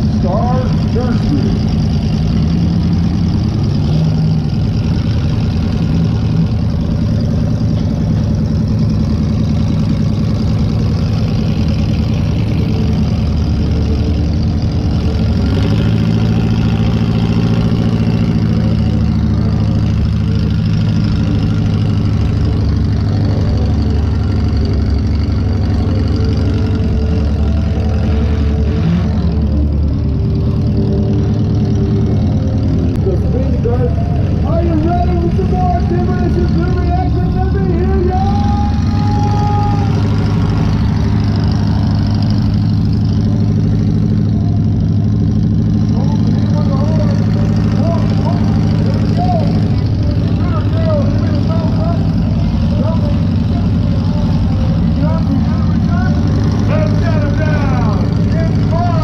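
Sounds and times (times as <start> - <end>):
car engine running loudly: 0.0 - 59.0.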